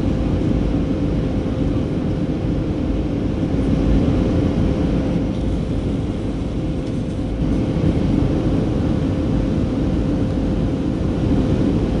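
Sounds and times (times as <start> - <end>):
constant hum tone: 0.0 - 12.0
jet engine cabin rumble: 0.0 - 12.0.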